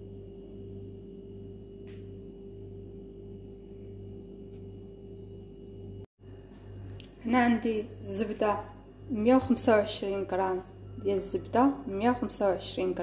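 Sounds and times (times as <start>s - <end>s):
steady tonal hum: 0.0s - 13.0s.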